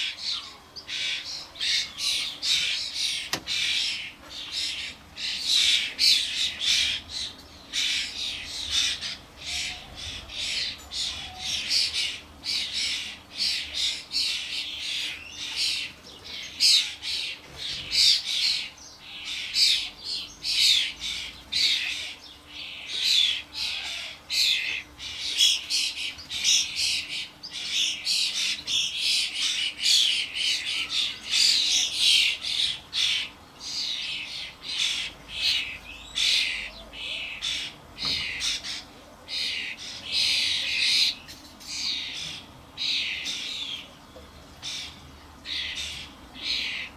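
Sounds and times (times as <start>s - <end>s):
starling fledglings begging calls: 0.0s - 46.9s.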